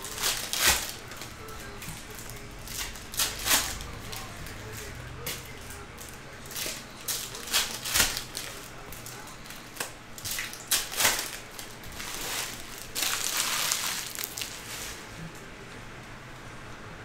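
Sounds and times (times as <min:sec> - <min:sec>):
foil wrappers crinkling: 0:00.0 - 0:15.1.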